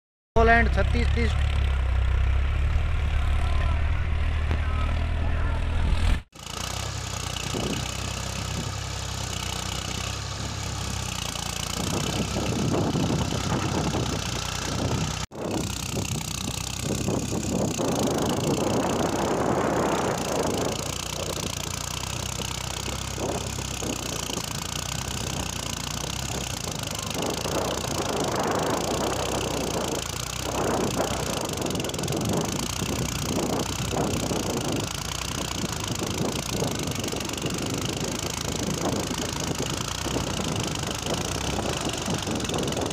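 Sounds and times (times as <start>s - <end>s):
tractor diesel engine under load: 0.4s - 42.9s.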